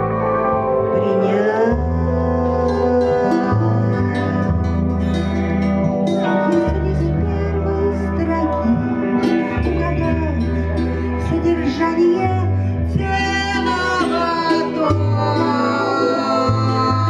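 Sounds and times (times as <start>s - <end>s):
live band with electric guitar: 0.0s - 17.0s
low held bass notes: 0.0s - 17.0s.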